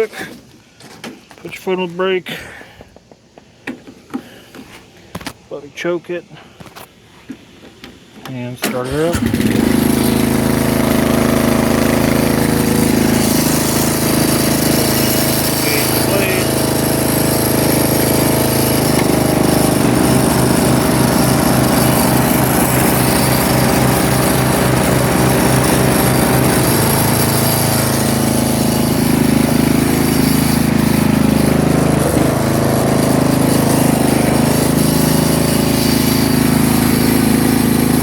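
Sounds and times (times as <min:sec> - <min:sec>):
riding lawnmower engine running: 0:07.3 - 0:38.0.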